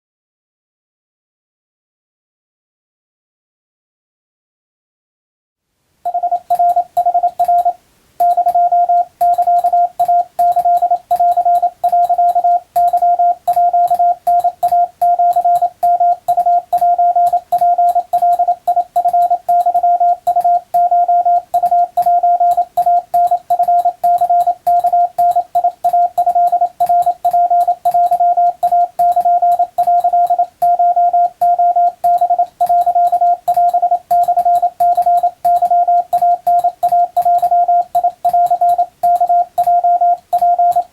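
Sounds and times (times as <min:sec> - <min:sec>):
morse code tone: 0:06.1 - 0:40.9.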